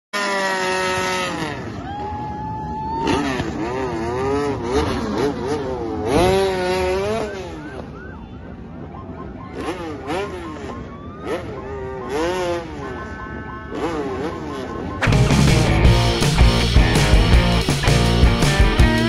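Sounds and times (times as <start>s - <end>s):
motorcycle engine revving: 0.1s - 1.9s, 3.0s - 7.8s, 9.4s - 19.0s.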